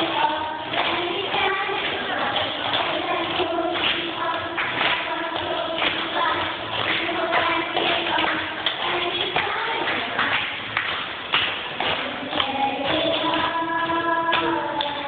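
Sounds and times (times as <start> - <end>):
girls singing into microphones: 0.0 - 15.0.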